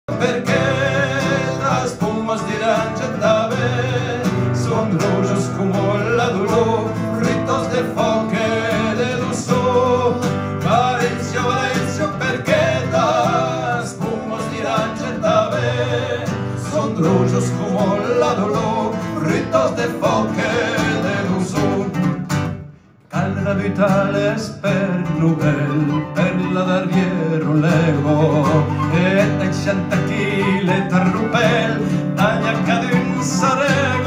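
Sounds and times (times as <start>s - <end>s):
acoustic guitar: 0.0s - 34.0s.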